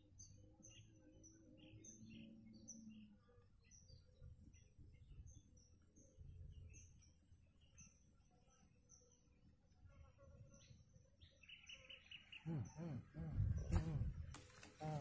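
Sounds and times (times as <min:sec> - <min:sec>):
faint bird chirps: 0:00.0 - 0:14.2.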